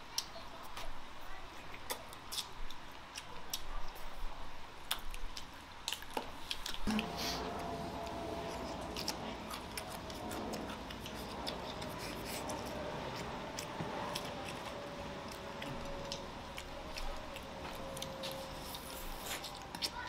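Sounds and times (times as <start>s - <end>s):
close chewing: 1.5s - 20.0s.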